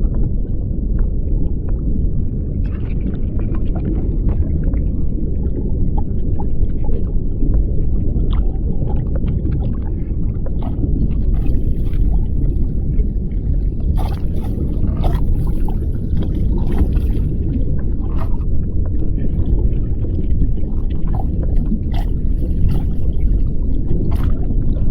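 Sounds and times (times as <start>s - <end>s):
low rumble of moving water: 0.0s - 24.9s
small underwater clicks and crackles: 0.0s - 24.9s.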